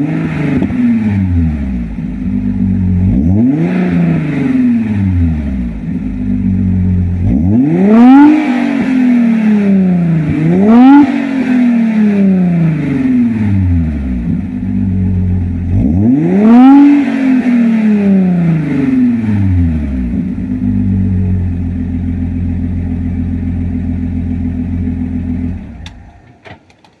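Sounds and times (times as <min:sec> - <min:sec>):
car engine revving and idling: 0:00.0 - 0:26.4.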